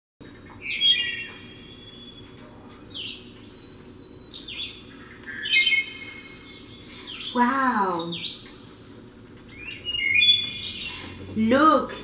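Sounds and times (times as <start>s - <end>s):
low steady hum: 0.2s - 12.0s.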